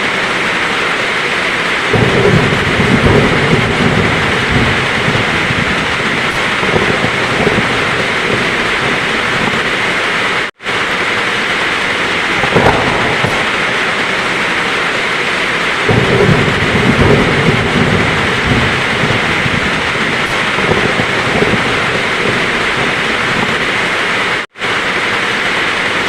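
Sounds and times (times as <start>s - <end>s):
heavy rain falling: 0.0s - 26.0s
low thunder rumble: 1.2s - 24.4s.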